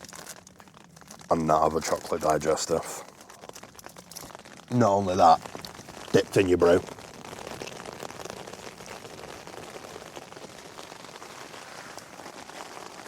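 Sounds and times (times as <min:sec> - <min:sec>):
rain pattering on tent: 0:00.0 - 0:13.0.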